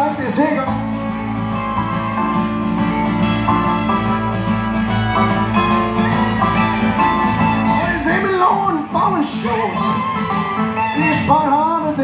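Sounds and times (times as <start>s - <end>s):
country band instrumental: 0.0s - 12.0s.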